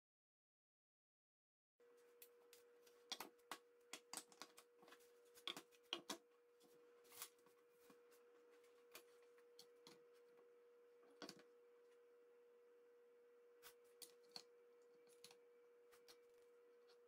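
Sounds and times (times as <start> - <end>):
faint steady hum: 1.8 - 17.0.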